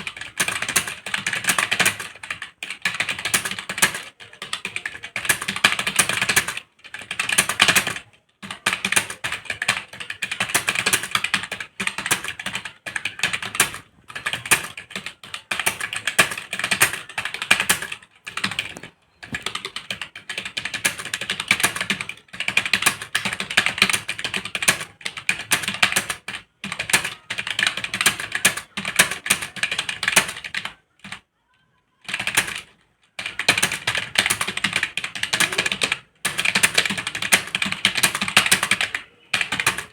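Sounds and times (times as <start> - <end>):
typing on computer keyboard: 0.0 - 31.3, 32.0 - 39.9.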